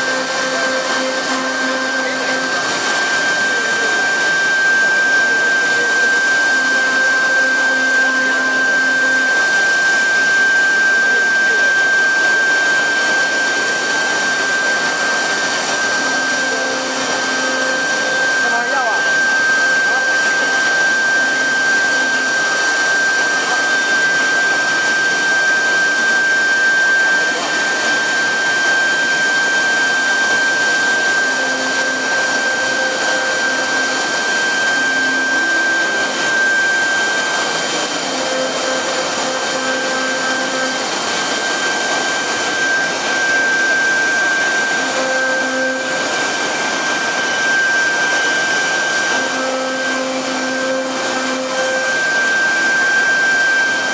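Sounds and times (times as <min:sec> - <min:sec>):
lower hum: 0:00.0 - 0:53.9
router spindles whining: 0:00.0 - 0:53.9.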